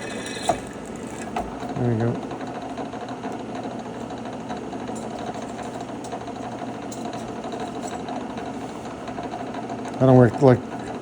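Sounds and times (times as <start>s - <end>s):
drill press motor humming: 0.0s - 11.0s.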